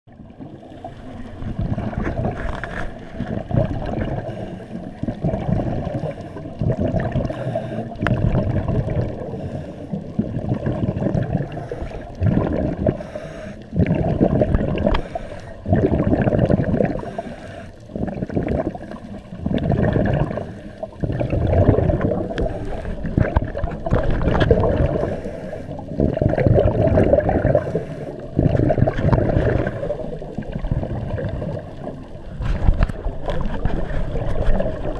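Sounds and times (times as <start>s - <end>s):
regulator bubbles gurgling: 0.1s - 34.9s
diver breathing underwater: 0.6s - 34.9s.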